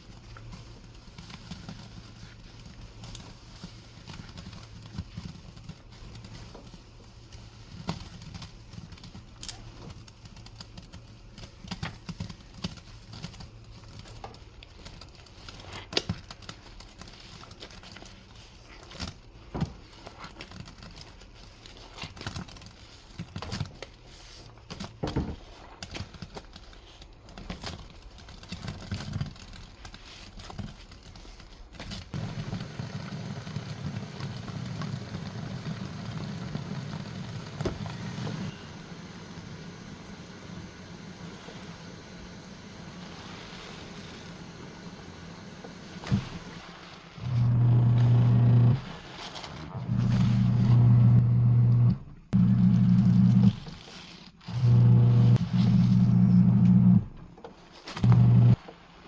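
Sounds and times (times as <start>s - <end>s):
soap suds squishing and popping: 0.0s - 38.6s, 40.2s - 51.5s.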